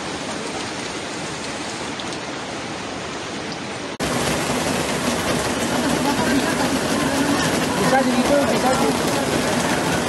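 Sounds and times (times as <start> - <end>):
heavy rain on standing water: 0.0 - 10.0.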